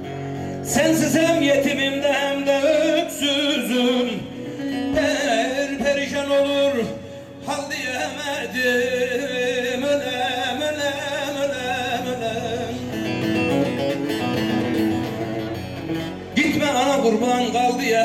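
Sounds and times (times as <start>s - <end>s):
folk band with long-necked lute: 0.0s - 18.0s.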